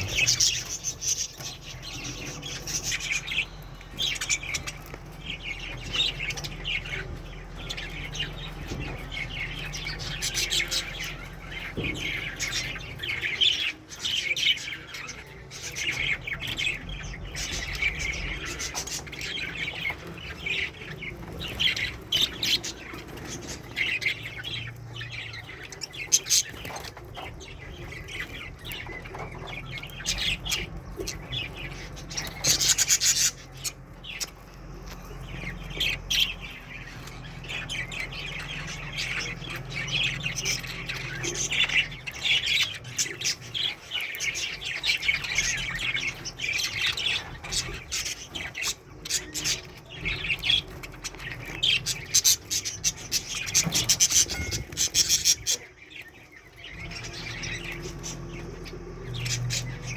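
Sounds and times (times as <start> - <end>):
budgies chattering and chirping: 0.0 - 59.9.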